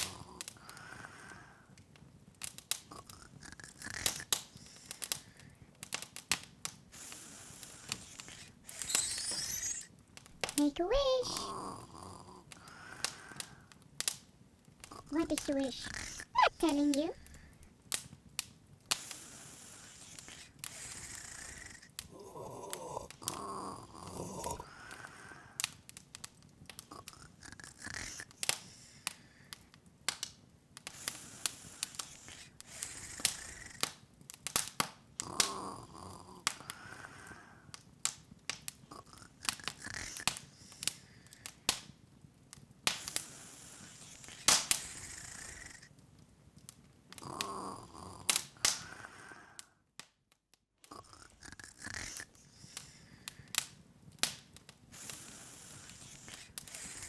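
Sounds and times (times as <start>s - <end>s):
open fire crackling: 0.0s - 57.0s.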